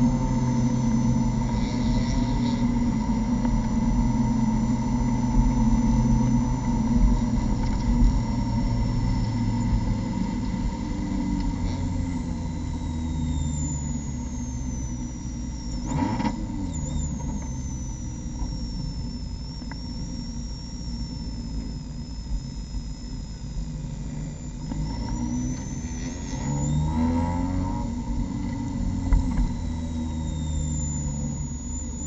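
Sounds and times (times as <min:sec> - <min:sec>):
high whine: 0:00.0 - 0:32.0
race car engine at low revs: 0:00.0 - 0:32.0.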